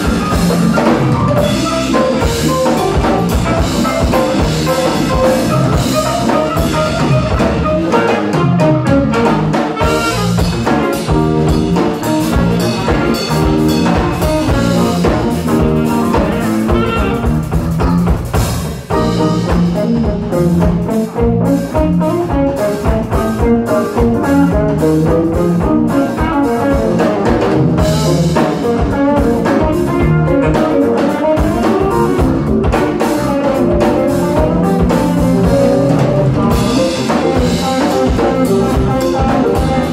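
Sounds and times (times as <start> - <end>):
saxophone: 0.0 - 18.2, 18.9 - 39.9
bass guitar: 0.0 - 39.9
drum kit: 0.0 - 39.9
electric guitars: 0.0 - 39.9.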